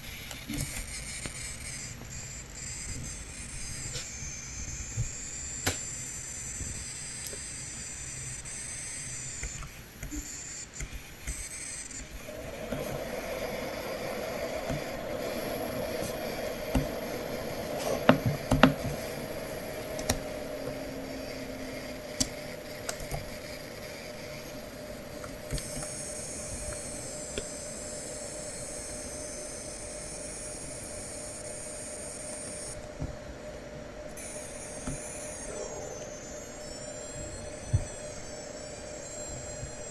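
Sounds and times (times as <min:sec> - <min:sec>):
laptop coil whine: 0:00.0 - 0:39.9
steady hiss: 0:00.0 - 0:39.9.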